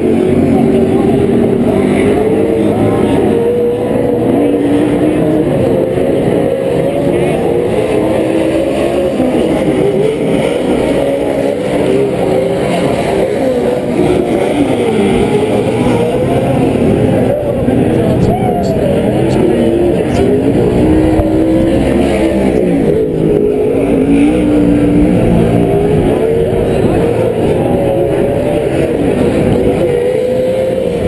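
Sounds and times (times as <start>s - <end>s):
race truck engines revving: 0.0s - 31.0s.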